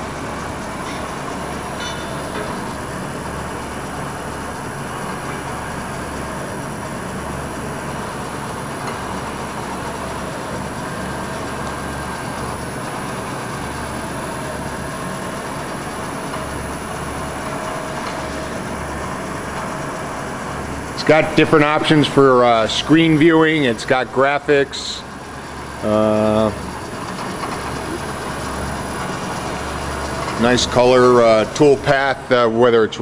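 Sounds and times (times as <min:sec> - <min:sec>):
milling machine running: 0:00.0 - 0:33.0.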